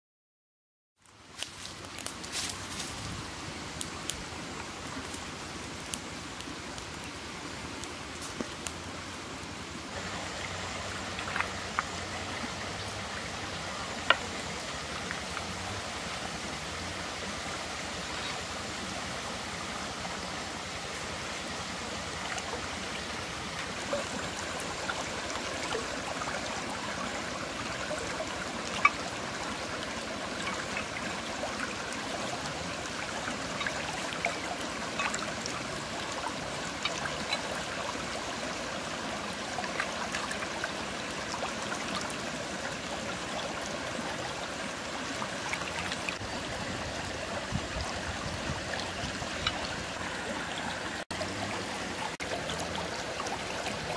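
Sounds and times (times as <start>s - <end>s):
stream trickling and gurgling: 1.0s - 53.9s.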